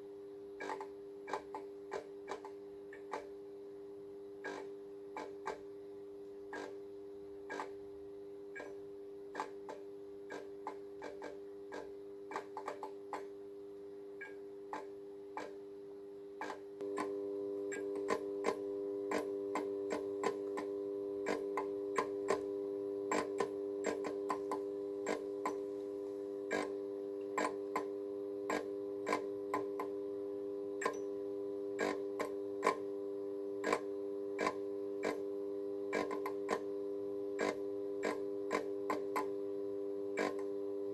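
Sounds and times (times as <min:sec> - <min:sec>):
fluorescent ballast humming: 0:00.0 - 0:40.9.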